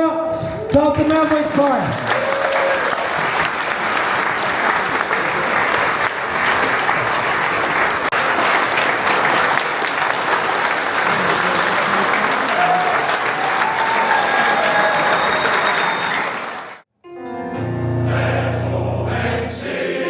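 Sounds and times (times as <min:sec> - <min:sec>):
audience applauding: 0:00.7 - 0:16.9.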